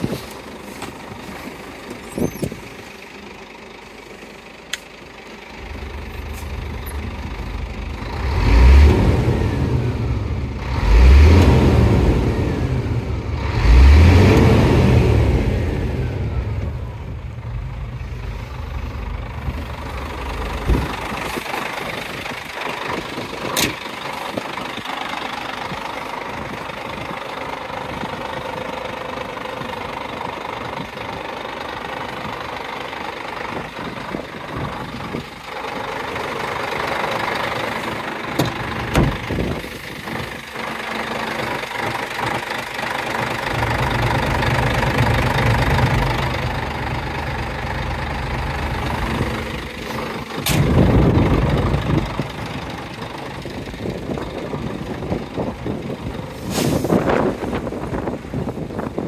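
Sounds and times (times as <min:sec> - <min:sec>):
diesel engine idling: 0:00.0 - 0:59.0
low rumbles: 0:00.0 - 0:59.0
engine knocks: 0:04.7 - 0:12.6, 0:13.4 - 0:59.0.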